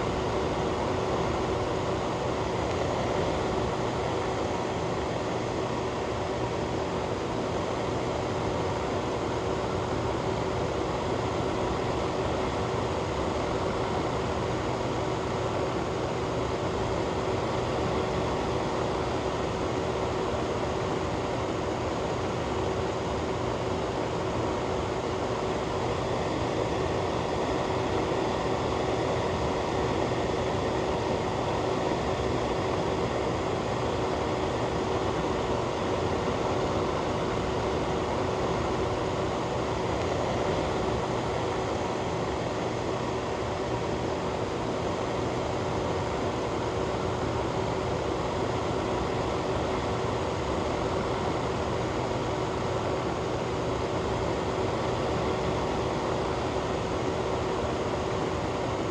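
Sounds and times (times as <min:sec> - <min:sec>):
fan running: 0:00.0 - 0:58.9.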